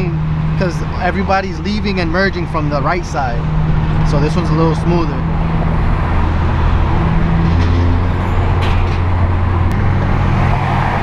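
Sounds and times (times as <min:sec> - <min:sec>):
car engine droning: 0:00.0 - 0:11.0
tyre and road noise: 0:00.0 - 0:11.0.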